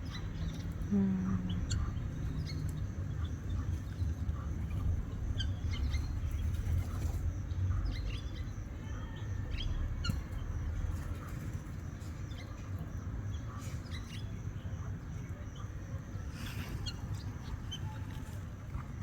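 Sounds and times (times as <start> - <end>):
steady low rumble: 0.0 - 16.2
small birds chirping: 0.0 - 19.0.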